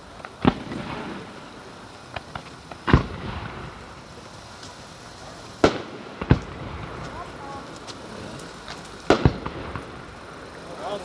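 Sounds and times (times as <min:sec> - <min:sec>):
loud firework bangs: 0:00.0 - 0:11.0
small firework cracks: 0:00.0 - 0:11.0.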